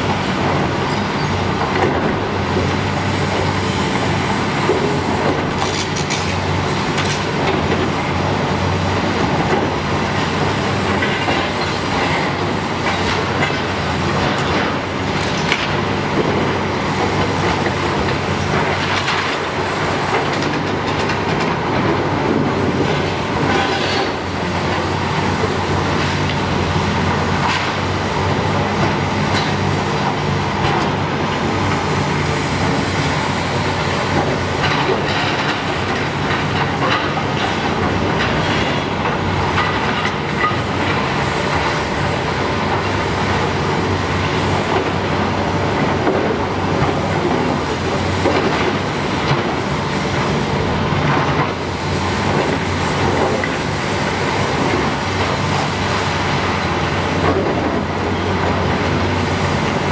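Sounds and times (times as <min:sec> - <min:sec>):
excavators running: 0:00.0 - 0:59.9.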